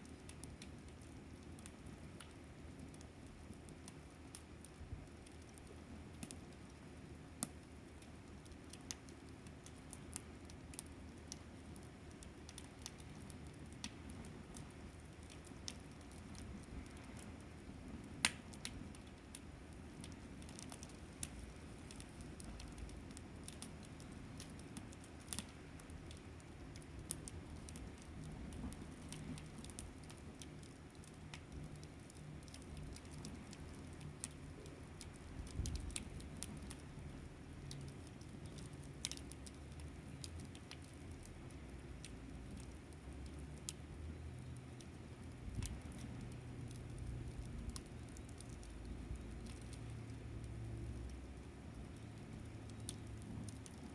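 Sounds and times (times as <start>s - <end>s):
low steady rumble: 0.0s - 53.9s
wood fire crackling and popping: 0.0s - 53.9s.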